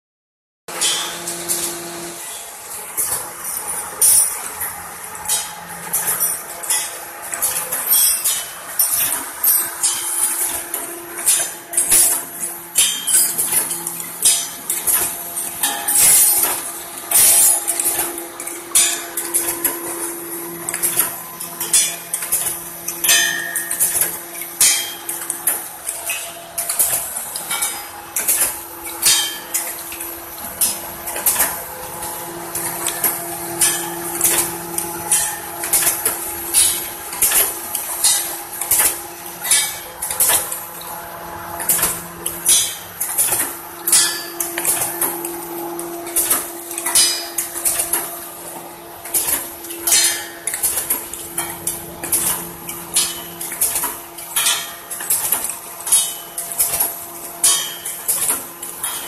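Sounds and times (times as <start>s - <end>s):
metallic clanks and clinks: 0.7s - 41.0s, 41.6s - 59.0s
motor hum: 0.8s - 59.0s.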